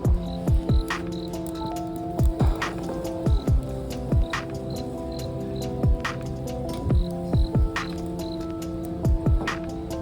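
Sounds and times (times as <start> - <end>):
sustained music chords: 0.0 - 10.0.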